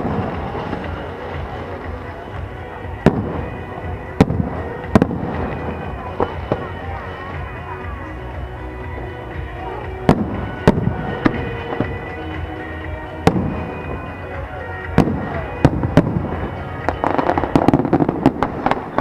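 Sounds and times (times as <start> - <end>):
crackling fireworks pops: 0.0 - 8.0, 9.8 - 19.0
fireworks bursting bangs: 0.0 - 8.0, 8.9 - 19.0
music playing: 0.0 - 19.0.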